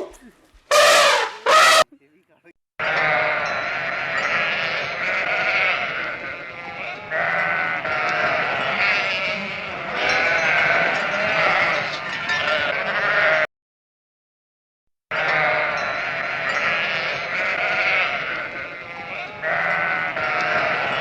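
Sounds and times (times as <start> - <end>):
farm animals calling: 0.0 - 2.0, 2.8 - 13.5, 15.1 - 21.0.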